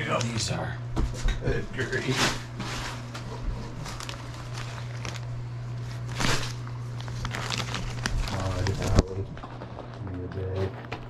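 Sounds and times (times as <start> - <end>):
steady low hum: 0.0 - 11.0
plastic bags crinkling: 2.0 - 10.8.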